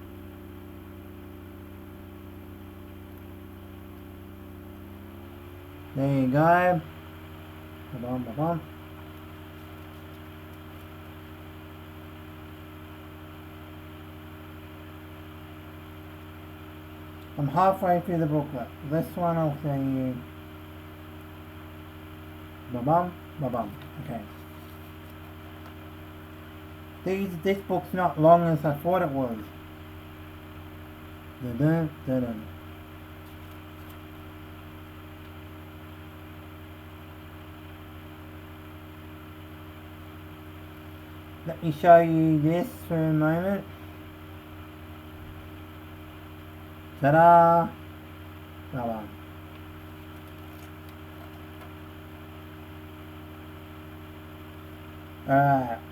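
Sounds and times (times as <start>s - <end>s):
low electrical hum: 0.0s - 55.9s.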